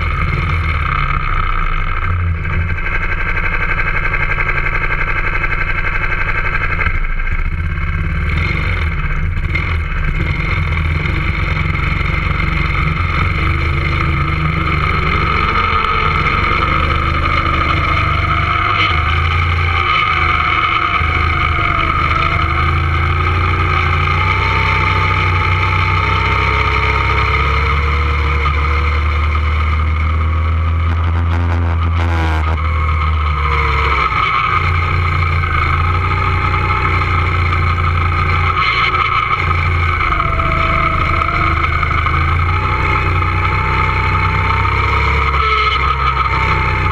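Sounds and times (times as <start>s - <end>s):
go-kart engine running: 0.0s - 46.9s.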